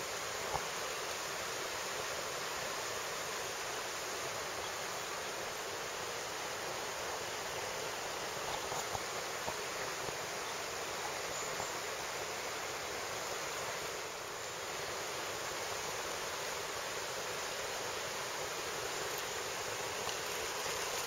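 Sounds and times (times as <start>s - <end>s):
river rushing over stones: 0.0s - 21.0s.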